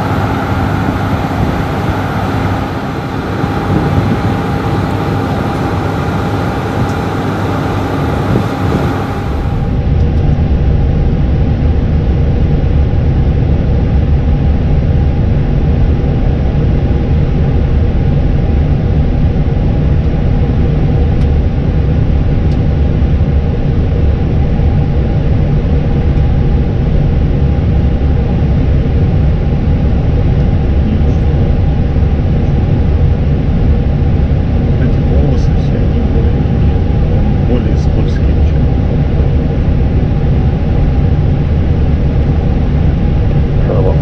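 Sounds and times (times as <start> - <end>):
airplane cockpit rumble: 0.0 - 44.0
faint steady hums: 0.0 - 44.0.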